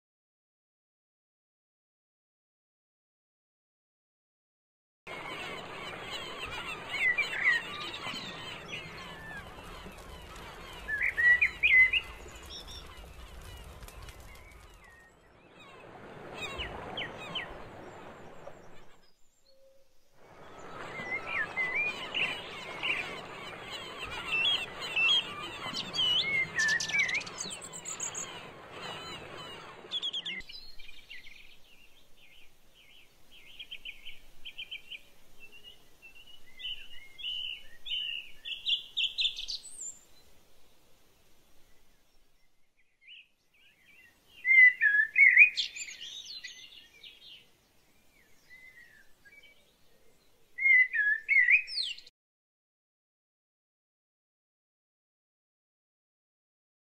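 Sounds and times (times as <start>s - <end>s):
birds chirping: 5.1s - 52.1s.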